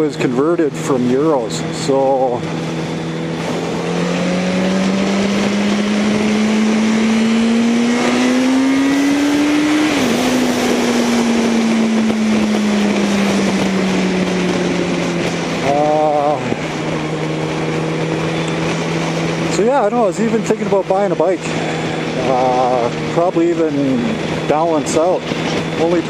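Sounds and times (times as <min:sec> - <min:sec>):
motorcycle engine running: 0:00.0 - 0:26.0
wind and road rush: 0:00.0 - 0:26.0.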